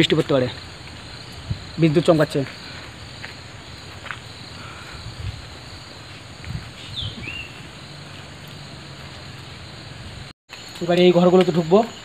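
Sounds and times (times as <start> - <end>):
crickets shrilling: 0.0 - 12.0.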